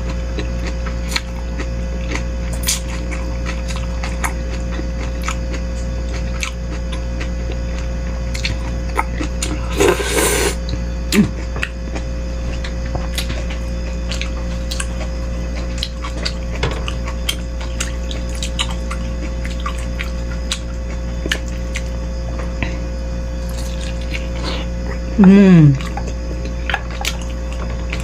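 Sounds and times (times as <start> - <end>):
chewing and slurping: 0.0 - 22.5, 23.4 - 25.2, 25.8 - 28.0
steady hum: 0.0 - 28.0.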